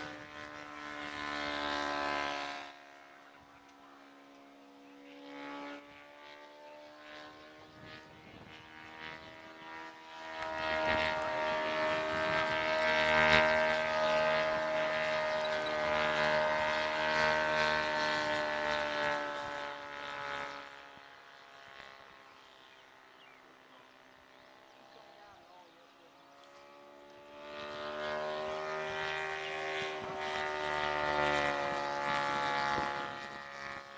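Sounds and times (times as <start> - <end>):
model airplane motor drone: 0.0 - 33.9.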